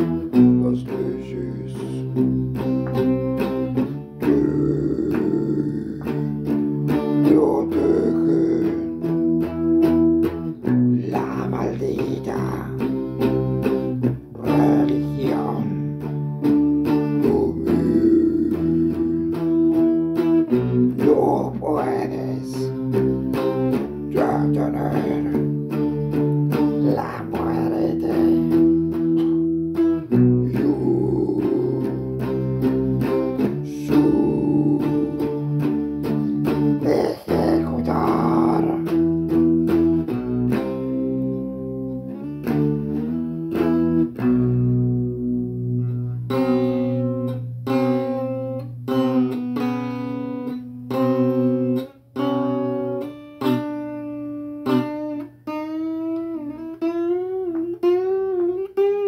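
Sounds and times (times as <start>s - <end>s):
bass: 0.0s - 49.3s
cumbia music with plucked guitar: 0.0s - 59.0s.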